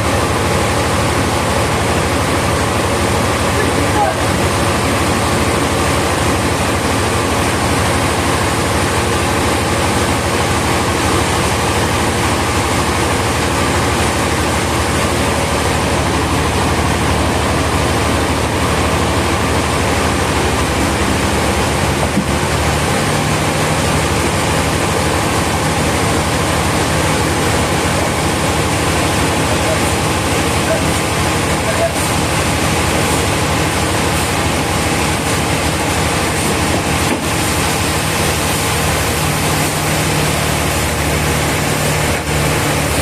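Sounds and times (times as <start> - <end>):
heavy machinery engine drone: 0.0 - 43.0.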